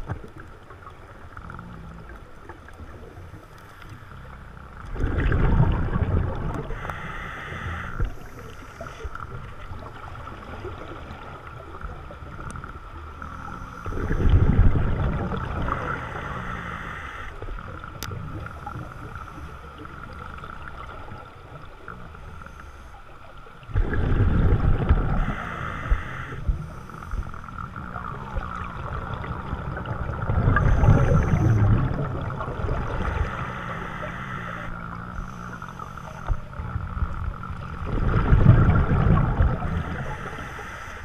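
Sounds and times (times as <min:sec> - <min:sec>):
steady underwater hum: 0:00.0 - 0:41.0
underwater bubbles gurgling: 0:00.0 - 0:41.0.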